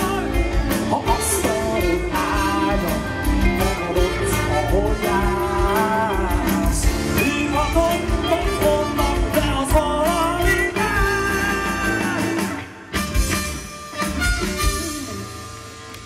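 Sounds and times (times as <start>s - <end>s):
man singing: 0.0s - 13.0s
live rock band playing: 0.0s - 16.0s.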